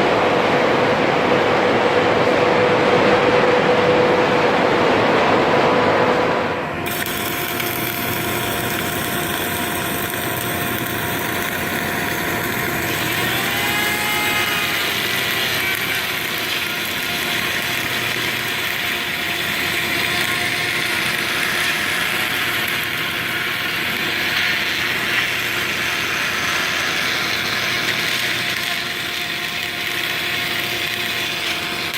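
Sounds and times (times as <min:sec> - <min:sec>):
industrial machine hum: 0:00.0 - 0:31.9
machine whine: 0:00.0 - 0:31.9.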